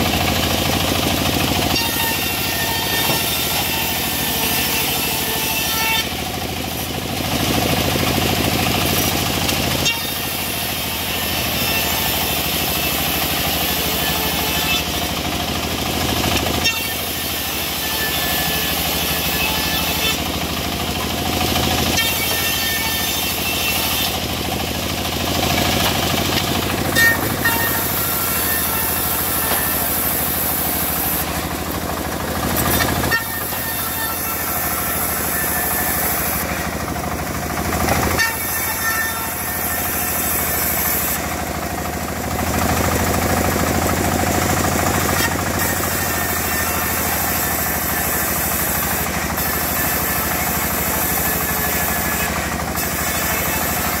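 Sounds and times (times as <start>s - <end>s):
engine-driven saw cutting wood: 0.0s - 54.0s.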